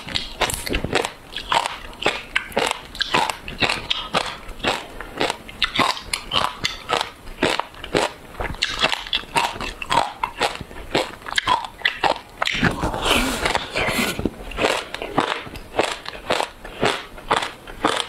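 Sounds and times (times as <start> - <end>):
crunching ice being chewed: 0.0 - 18.0.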